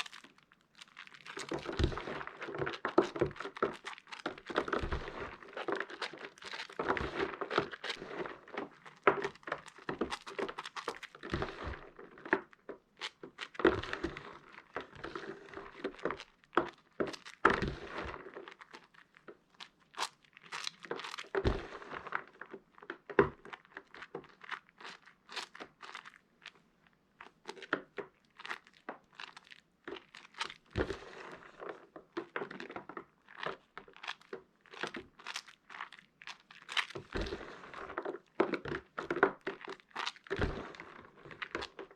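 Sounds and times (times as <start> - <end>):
soap crackling and crunching: 0.0 - 41.9.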